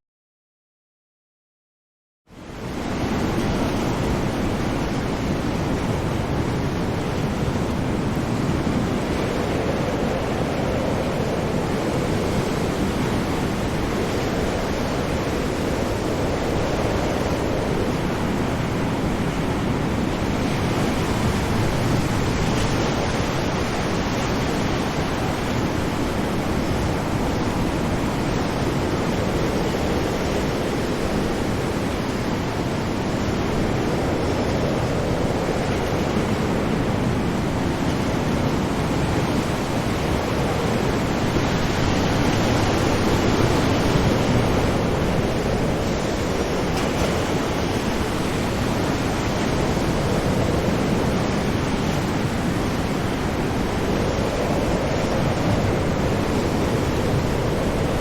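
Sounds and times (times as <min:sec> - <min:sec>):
ocean waves breaking: 0:02.6 - 0:58.0.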